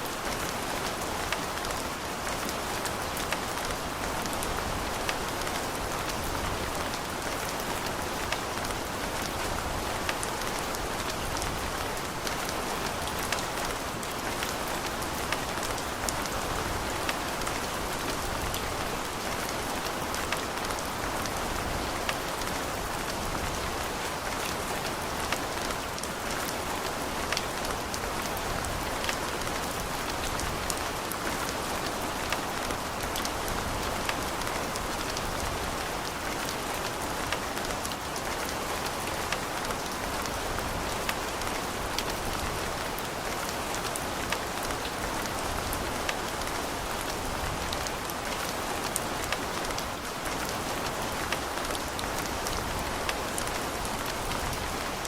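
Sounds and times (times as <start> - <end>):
steady rain pattering: 0.0 - 55.0.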